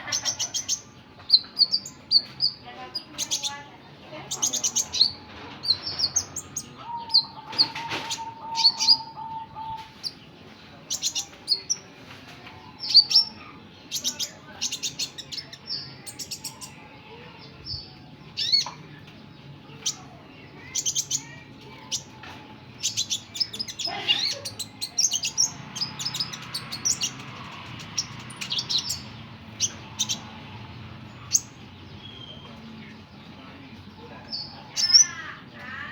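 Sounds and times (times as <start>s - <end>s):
bird chirping and twittering: 0.0s - 35.9s.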